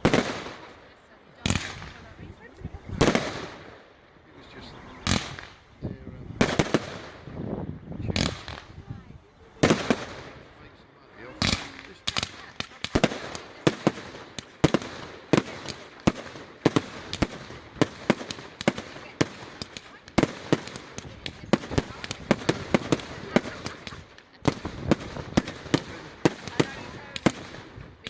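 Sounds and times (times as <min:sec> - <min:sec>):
fireworks sharp bangs: 0:00.0 - 0:04.0, 0:04.8 - 0:28.0.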